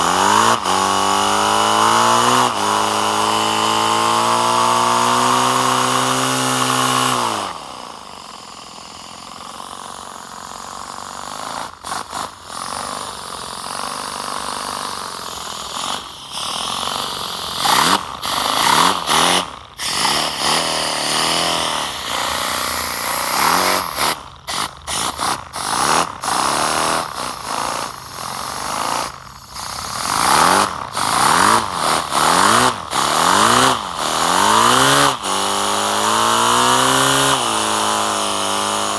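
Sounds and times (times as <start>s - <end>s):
small air engine whirring: 0.0s - 38.9s.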